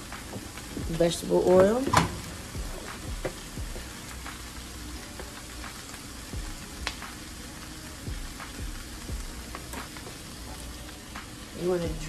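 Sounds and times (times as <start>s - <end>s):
food frying in a pan: 0.0s - 12.0s.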